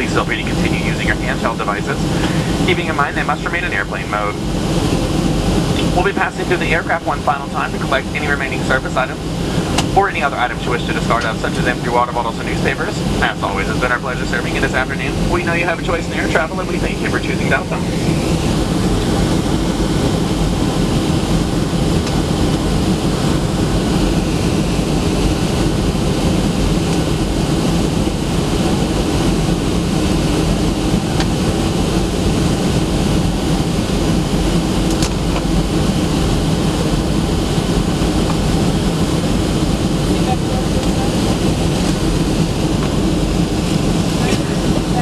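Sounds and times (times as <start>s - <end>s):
jet engines humming: 0.0s - 45.0s
rushing airflow: 0.0s - 45.0s.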